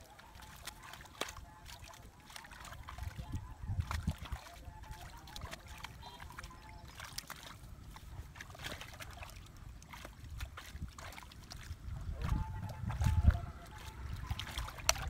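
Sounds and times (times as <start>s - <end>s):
hands splashing in muddy water: 0.0s - 15.0s.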